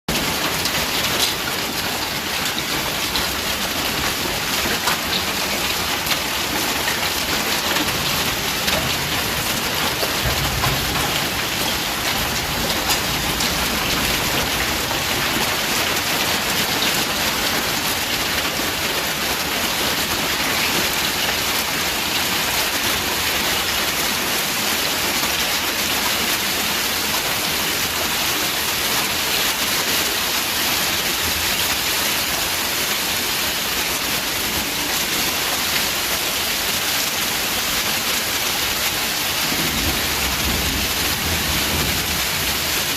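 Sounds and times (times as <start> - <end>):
hail and heavy rain: 0.1 - 42.9.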